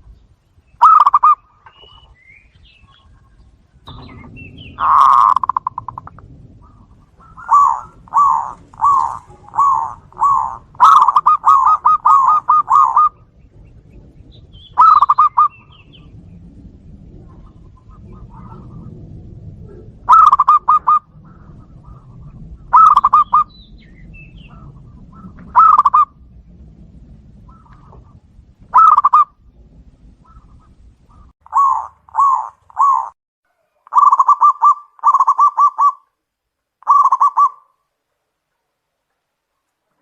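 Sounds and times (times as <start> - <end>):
doves cooing: 0.8 - 36.1, 36.8 - 37.7.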